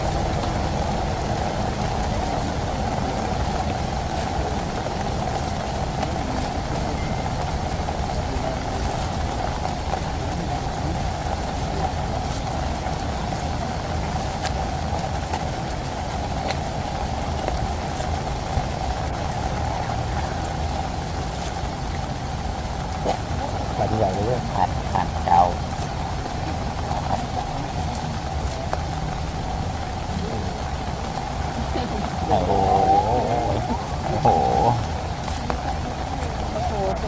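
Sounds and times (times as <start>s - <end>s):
rain on foliage: 0.0s - 37.0s.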